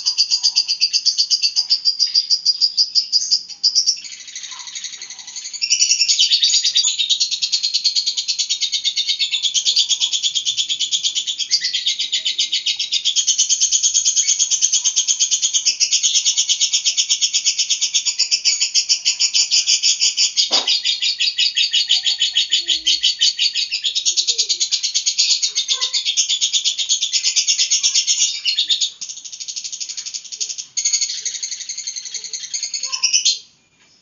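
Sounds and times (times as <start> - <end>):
lovebird chattering trill: 0.0 - 33.5.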